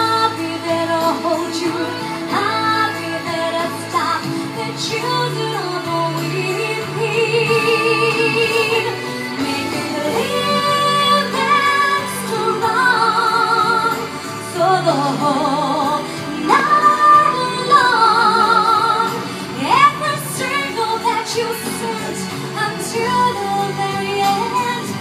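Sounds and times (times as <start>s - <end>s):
backing music: 0.0s - 25.0s
woman singing with vibrato: 0.0s - 25.0s.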